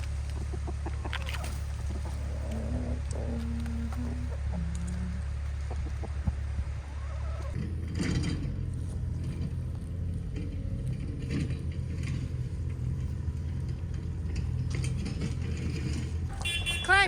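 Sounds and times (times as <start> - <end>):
earthmoving machine engine running: 0.0 - 16.9.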